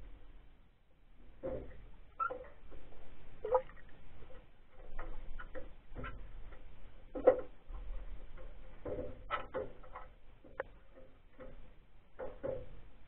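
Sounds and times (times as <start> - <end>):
underwater clicks and knocks: 1.2 - 13.0.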